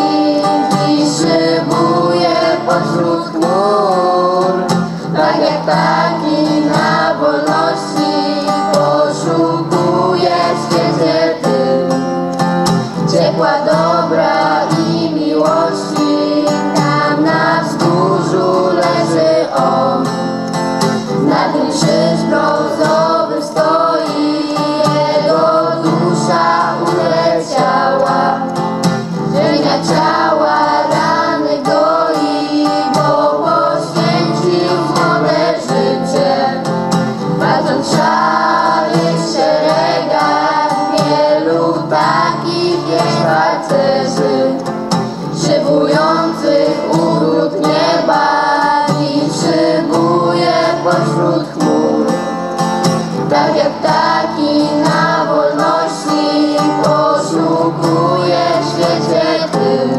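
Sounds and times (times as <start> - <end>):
children singing together: 0.0 - 12.1, 12.9 - 20.4, 21.0 - 59.9.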